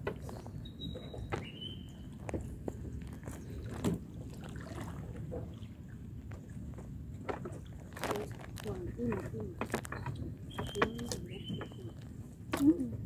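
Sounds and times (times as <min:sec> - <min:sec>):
paddle knocks and splashes: 0:00.0 - 0:13.0.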